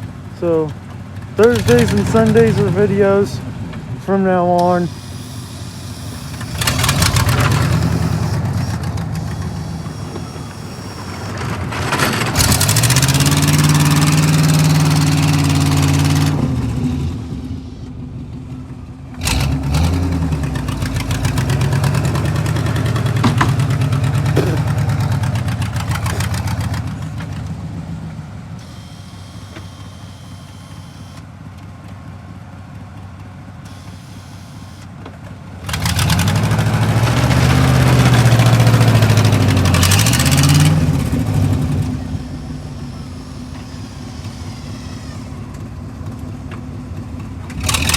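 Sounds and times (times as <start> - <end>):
vehicle engine revving: 0.0 - 31.2, 35.5 - 47.9.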